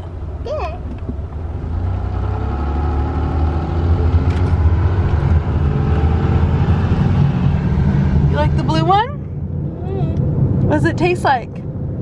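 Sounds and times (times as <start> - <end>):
car engine rumble in cabin: 0.0 - 12.0.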